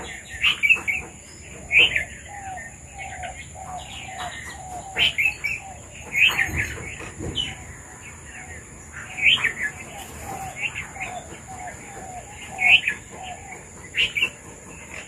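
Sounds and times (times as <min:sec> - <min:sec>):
bulbuls chirping: 0:00.0 - 0:15.0.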